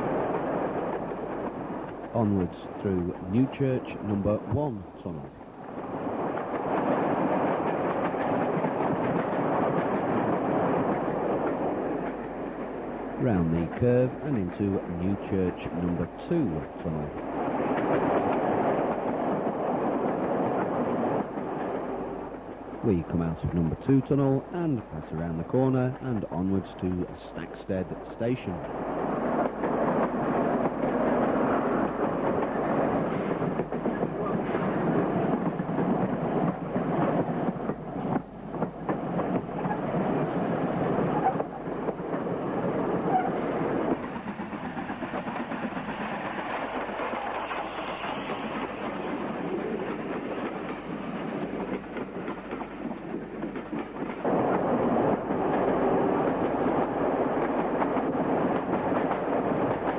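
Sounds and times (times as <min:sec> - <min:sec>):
diesel train running: 0:00.0 - 0:59.9.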